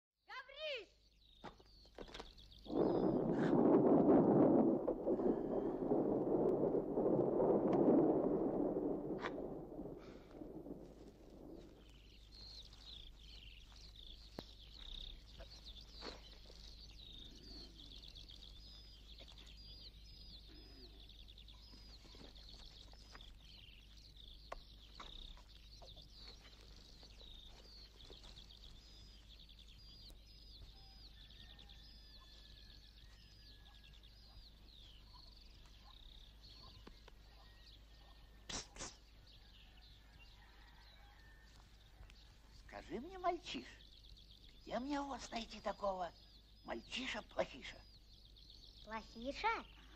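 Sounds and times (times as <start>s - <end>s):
small bird chirping: 0.3s - 4.0s, 9.2s - 49.9s.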